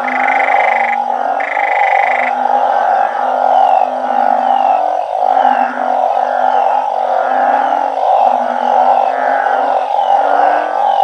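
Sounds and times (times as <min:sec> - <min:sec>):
din of many calling frogs: 0:00.0 - 0:11.0
frogs low drawn-out calls: 0:00.0 - 0:11.0.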